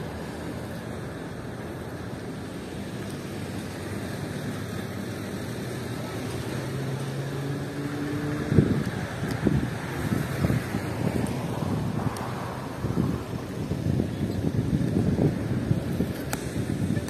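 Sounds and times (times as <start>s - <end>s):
wind gusts buffeting microphone: 0.0s - 17.0s
wind rumbling on microphone: 0.0s - 17.0s.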